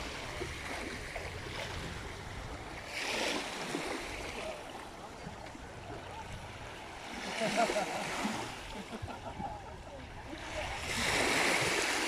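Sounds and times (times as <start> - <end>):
waves lapping on sand: 0.0 - 12.0
wind: 0.0 - 12.0.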